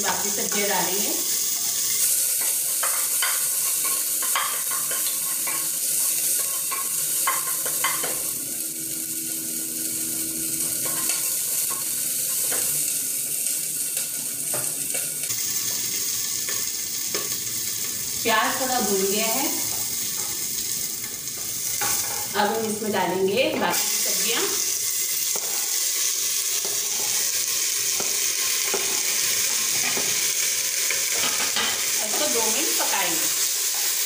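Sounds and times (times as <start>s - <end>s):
onions sizzling in oil: 0.0s - 34.0s.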